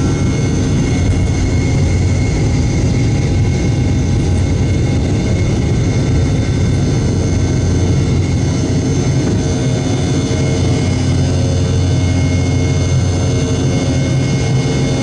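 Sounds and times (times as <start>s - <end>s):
jet engines rumbling in cabin: 0.0s - 15.0s
steady engine whine: 0.0s - 15.0s.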